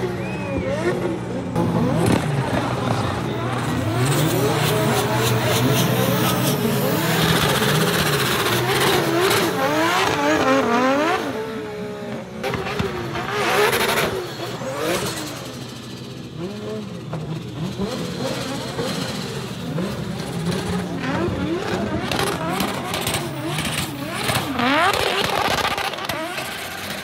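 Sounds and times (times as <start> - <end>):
car engine revving hard: 0.0 - 27.0.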